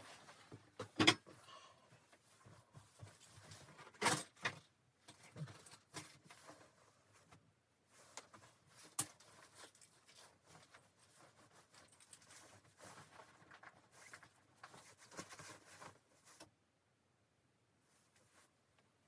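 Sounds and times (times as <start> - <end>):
faint rustling with clicks: 0.0 - 16.6.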